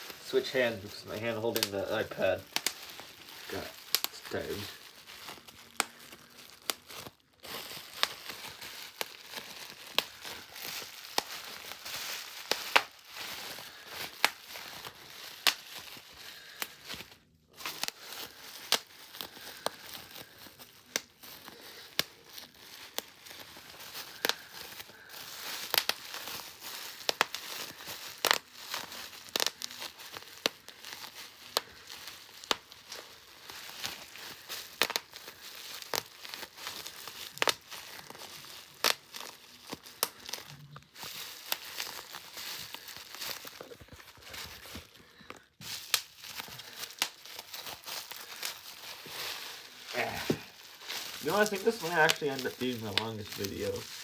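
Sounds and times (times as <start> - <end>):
bubble wrap popping: 0.0 - 54.0
plastic sheet crinkling: 0.0 - 54.0.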